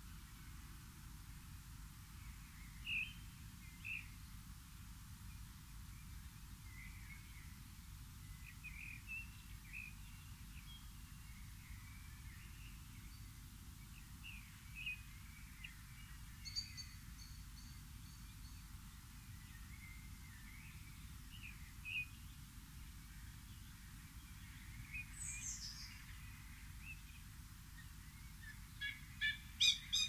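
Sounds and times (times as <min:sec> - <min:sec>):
small birds chirping: 0:02.0 - 0:04.5, 0:05.1 - 0:30.0.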